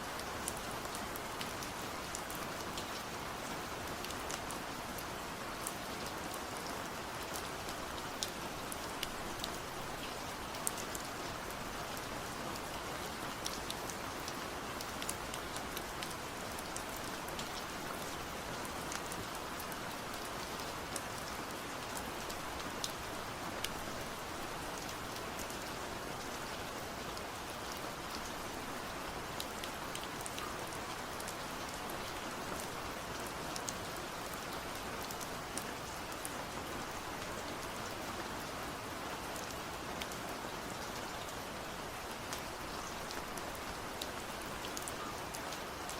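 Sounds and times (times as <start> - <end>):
rain falling: 0.0 - 45.9
raindrops ticking on surface: 0.1 - 38.0.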